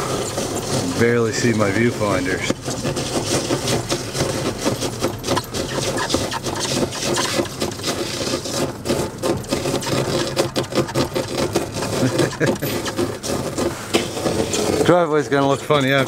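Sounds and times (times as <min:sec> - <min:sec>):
load creaking and rattling: 0:00.0 - 0:16.0
vehicle engine running: 0:00.0 - 0:16.0.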